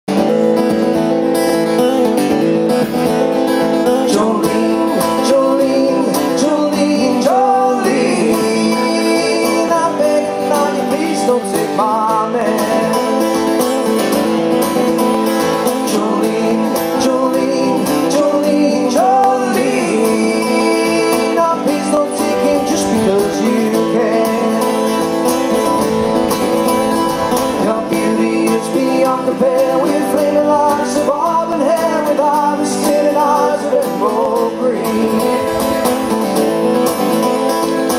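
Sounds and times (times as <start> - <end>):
acoustic guitars strummed: 0.1 - 37.9.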